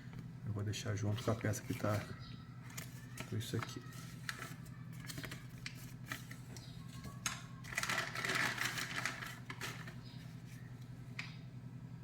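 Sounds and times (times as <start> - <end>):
plastic packaging crinkling: 1.0 - 10.6.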